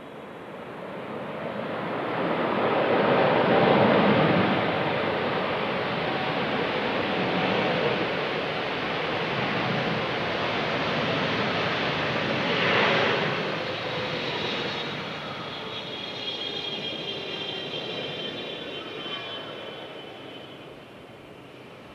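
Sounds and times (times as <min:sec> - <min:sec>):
jet engine high whine: 0:00.0 - 0:21.9
jet engine roar: 0:01.7 - 0:21.9.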